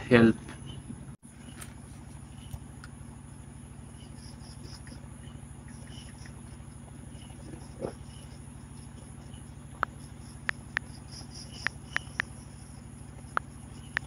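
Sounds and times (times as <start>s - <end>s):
crickets chirring: 0.0s - 14.0s
low pulsing machine hum: 0.0s - 14.0s.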